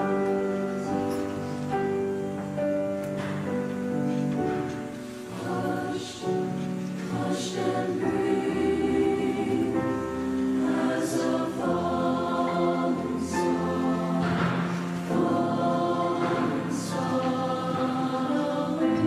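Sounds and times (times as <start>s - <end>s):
choir singing in harmony: 0.0s - 19.0s
grand piano accompaniment: 0.0s - 19.0s.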